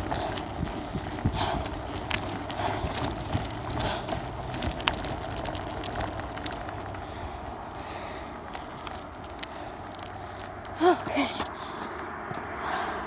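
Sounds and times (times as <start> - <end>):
bicycle rolling rumble: 0.0 - 13.0
bike rattling clicks and knocks: 0.0 - 13.0.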